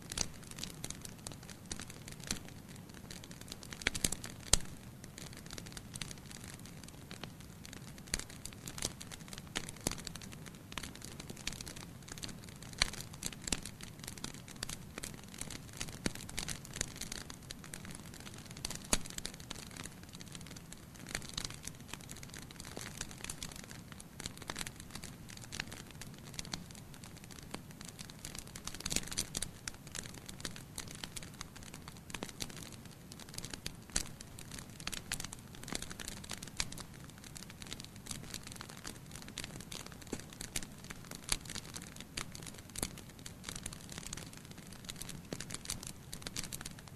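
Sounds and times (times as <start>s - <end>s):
fire crackling and popping: 0.0s - 46.9s.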